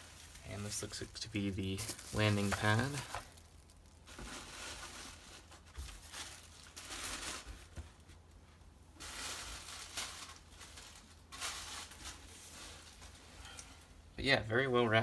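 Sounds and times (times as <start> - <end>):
plastic wrap crinkling: 0.0 - 13.8.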